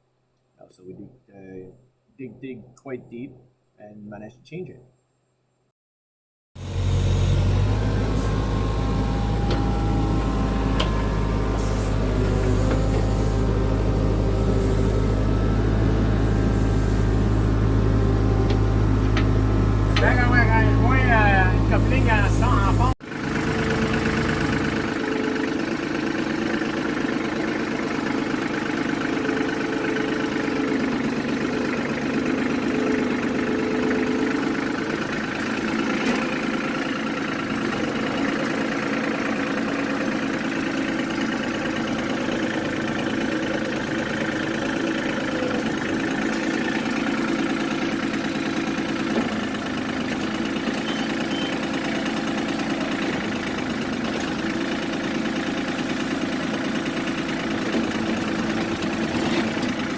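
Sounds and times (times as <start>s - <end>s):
heavy machine engine running: 6.6s - 59.9s.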